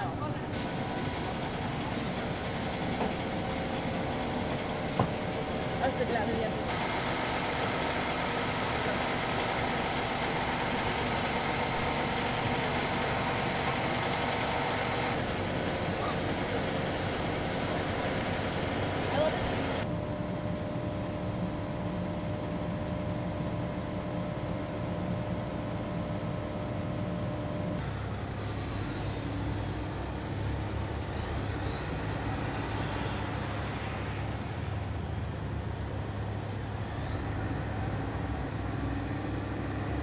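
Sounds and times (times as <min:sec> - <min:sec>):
diesel coach engines rumbling: 0:00.0 - 0:40.0.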